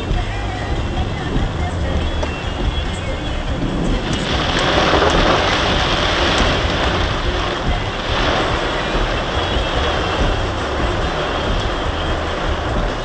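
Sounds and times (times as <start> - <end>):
storm wind and rain rushing: 0.0 - 13.0
wind rumbling on microphone: 0.0 - 13.0.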